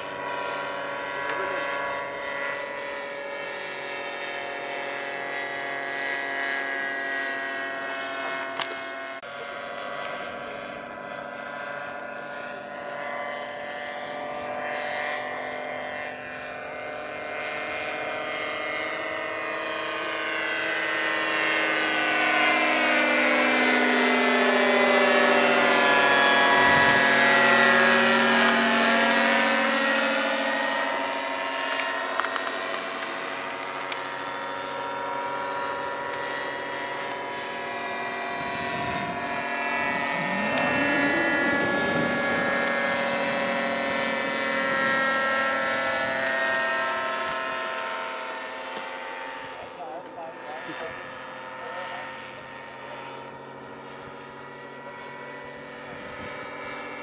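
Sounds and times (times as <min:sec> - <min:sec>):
model plane engine droning: 0:00.0 - 0:57.0.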